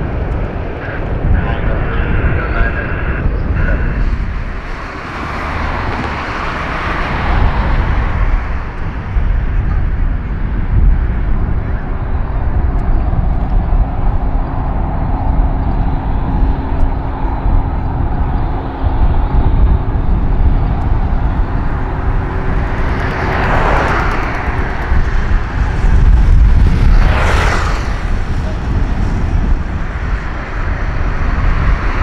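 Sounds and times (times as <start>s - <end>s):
distant jet engines running: 0.0s - 32.0s.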